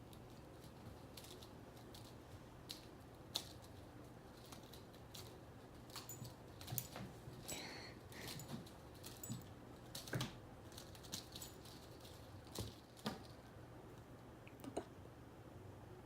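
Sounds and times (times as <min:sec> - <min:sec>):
rustling: 0:00.0 - 0:13.6
low steady hum: 0:00.0 - 0:16.0.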